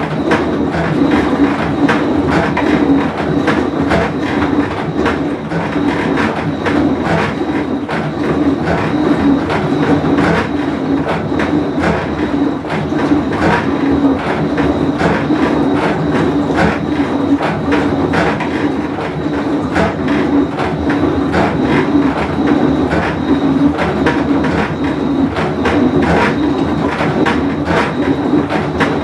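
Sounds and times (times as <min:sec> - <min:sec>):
washing machine drone: 0:00.0 - 0:29.0.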